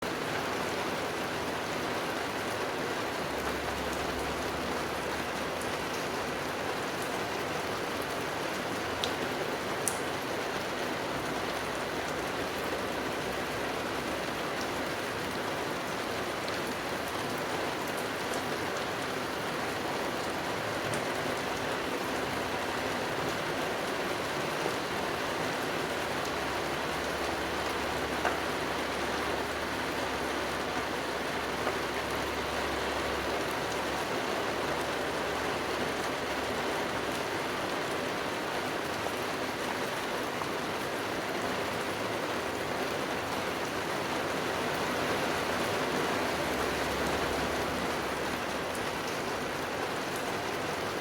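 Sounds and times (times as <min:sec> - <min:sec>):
rain on foliage: 0:00.0 - 0:51.0.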